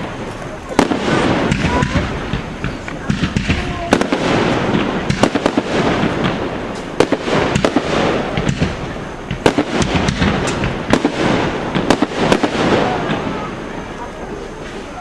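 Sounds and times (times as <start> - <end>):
continuous rumble: 0.0 - 15.0
fireworks cracks and bangs: 0.0 - 15.0.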